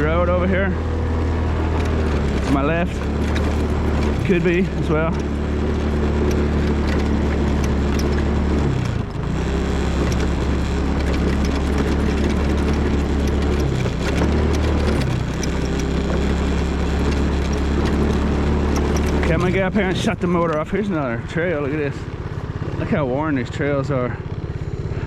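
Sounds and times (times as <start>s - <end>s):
rattles and clicks: 0.0s - 24.7s
small vehicle motor running: 0.0s - 25.0s.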